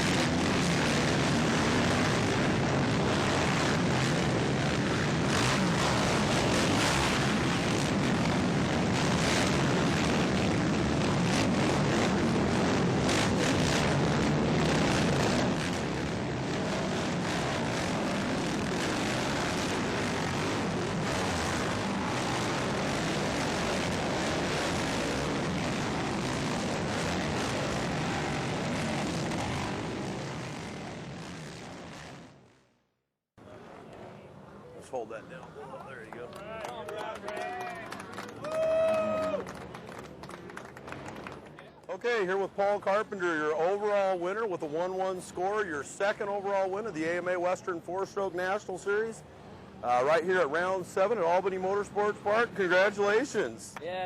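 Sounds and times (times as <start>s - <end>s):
motocross bike engines running hard: 0.0s - 32.4s, 33.5s - 53.6s.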